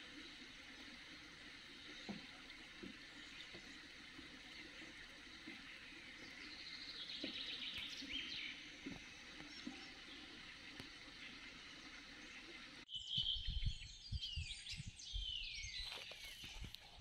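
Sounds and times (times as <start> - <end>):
faint water trickle: 0.0 - 17.0
songbird trill: 0.0 - 17.0.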